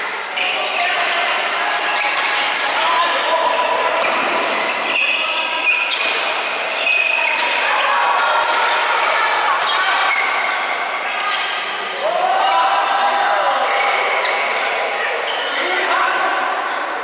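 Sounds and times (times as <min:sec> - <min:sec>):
players' voices: 0:00.0 - 0:17.0.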